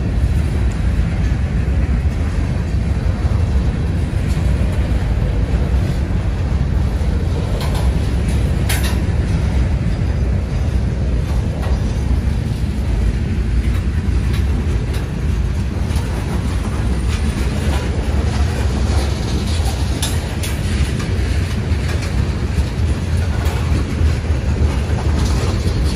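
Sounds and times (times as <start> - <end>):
freight train rumbling on rails: 0.0 - 25.9.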